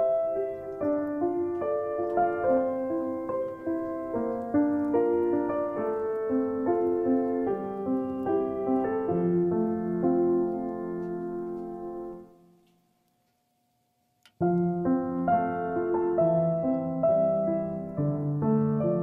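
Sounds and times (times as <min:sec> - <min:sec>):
piano music: 0:00.0 - 0:12.7, 0:14.4 - 0:19.0.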